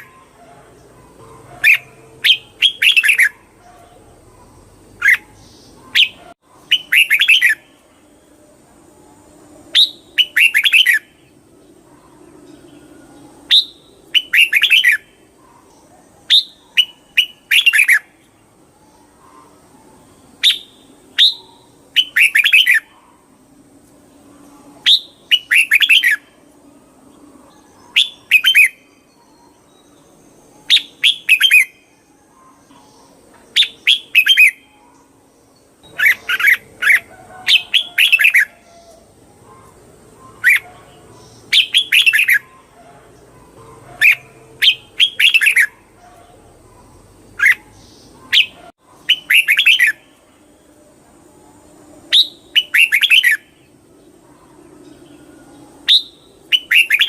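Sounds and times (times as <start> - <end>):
bird singing warbled phrases: 0.0 - 57.0
faint steady high tone: 0.0 - 57.0.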